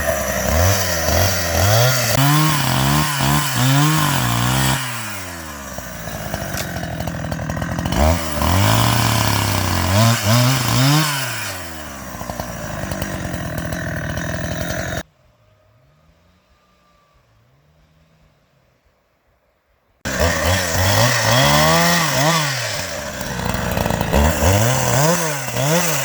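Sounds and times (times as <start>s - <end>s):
chainsaw engine revving: 0.0s - 15.0s, 20.1s - 26.0s.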